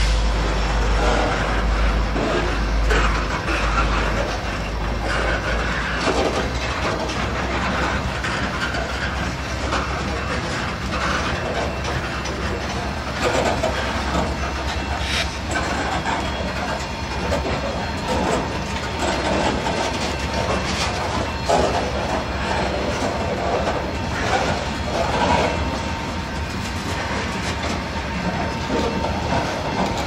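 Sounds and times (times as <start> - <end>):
train wheels rumbling on rails: 0.0 - 30.0
wheels clacking over rail joints: 0.0 - 30.0.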